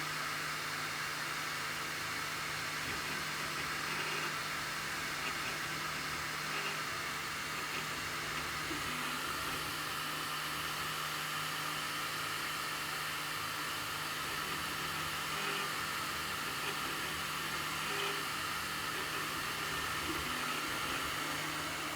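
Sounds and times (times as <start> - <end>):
printer high whirring hiss: 3.0 - 21.9.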